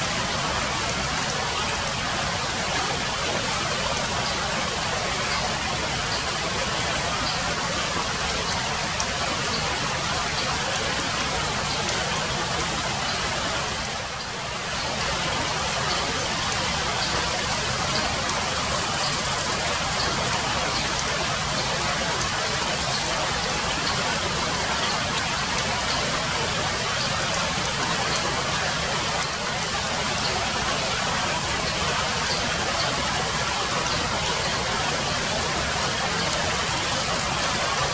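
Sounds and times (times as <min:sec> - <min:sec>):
rain falling on foliage: 0:00.0 - 0:37.9.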